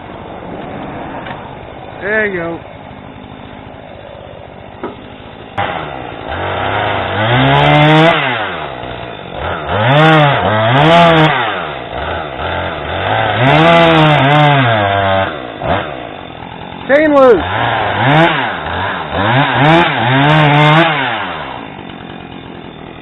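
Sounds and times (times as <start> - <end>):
chainsaw engine revving: 0.4 - 23.0.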